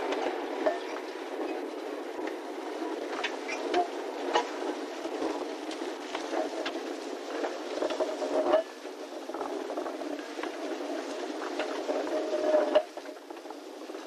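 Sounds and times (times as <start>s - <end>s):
wagons rolling and rattling: 0.0s - 14.0s.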